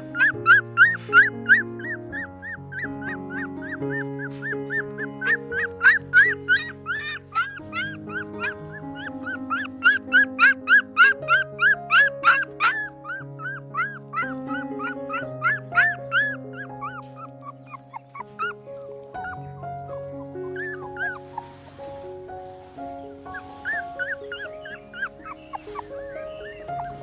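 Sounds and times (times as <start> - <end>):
background music with low notes: 0.0 - 27.0
puppies whimpering: 0.0 - 27.0.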